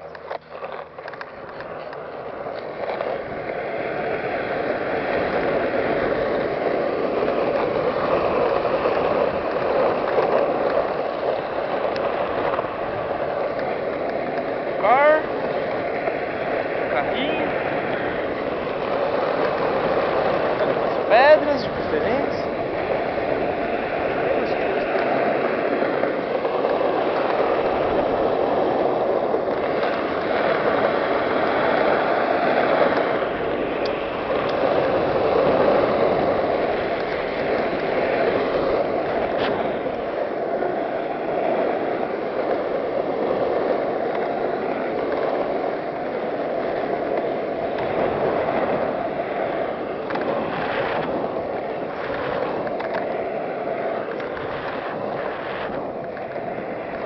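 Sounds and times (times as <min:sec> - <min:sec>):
skateboard wheels rolling: 0:00.0 - 0:57.0.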